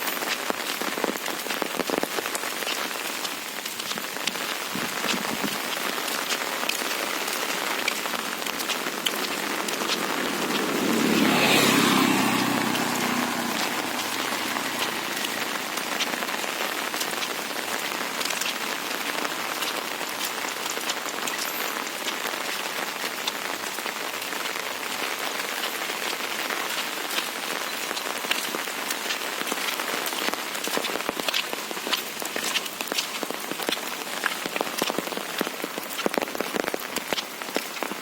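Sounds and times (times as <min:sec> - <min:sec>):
close raindrop hits: 0:00.0 - 0:38.0
steady rain falling: 0:00.0 - 0:38.0.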